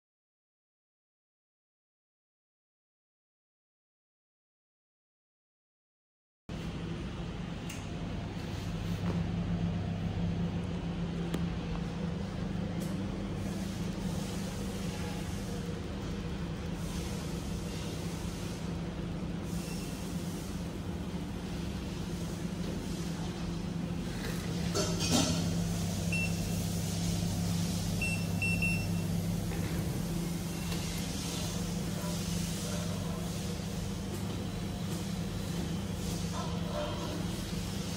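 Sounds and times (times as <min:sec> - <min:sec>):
machine hum with fan noise: 0:06.5 - 0:37.9.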